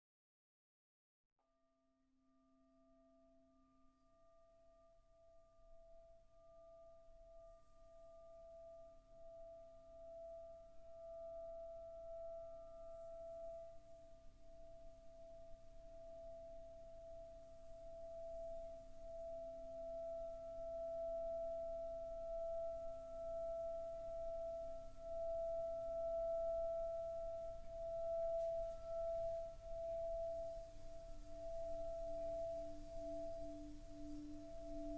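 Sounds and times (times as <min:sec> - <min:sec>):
singing bowl tone: 0:01.8 - 0:34.9.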